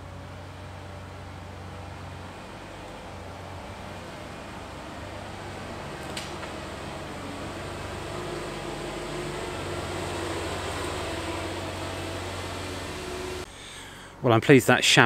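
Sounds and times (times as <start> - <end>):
diesel engine running: 0.0 - 14.1.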